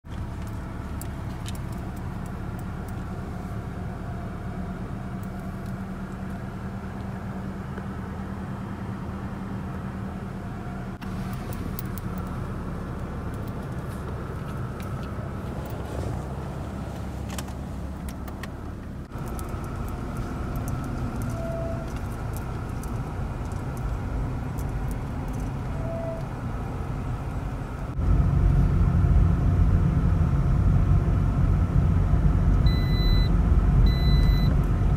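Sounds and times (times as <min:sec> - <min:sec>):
car engine and road hum: 0:00.0 - 0:34.9.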